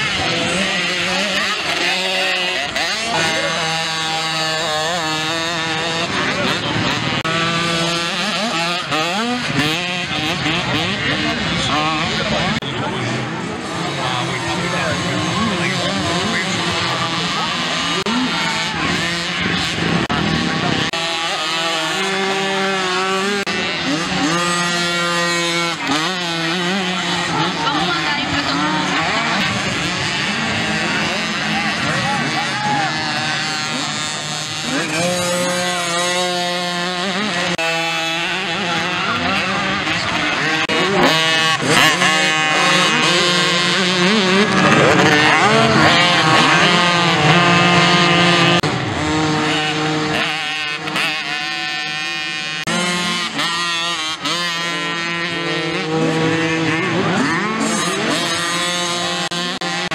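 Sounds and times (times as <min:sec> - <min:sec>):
mini motocross bike engines revving: 0:00.0 - 0:59.9.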